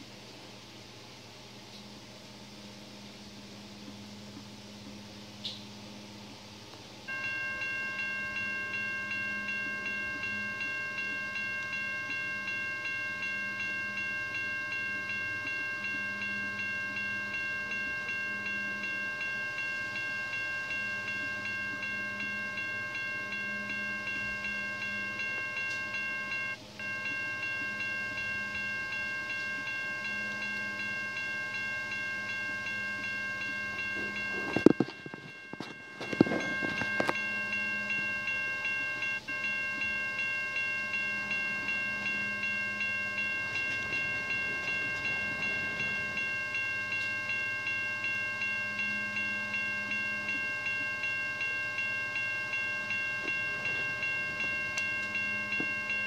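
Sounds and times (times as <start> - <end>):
toy crossing signal bell dinging: 7.1 - 56.0.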